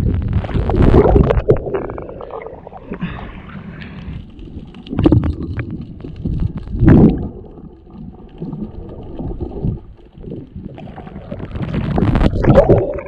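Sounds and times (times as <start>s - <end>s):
underwater rumbling and gurgling: 0.0s - 13.0s.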